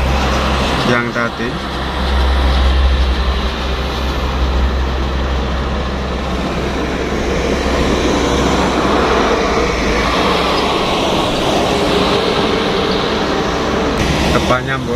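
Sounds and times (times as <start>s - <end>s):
heavy truck engine rumble: 0.0s - 14.9s
tyre and road noise: 0.0s - 14.9s.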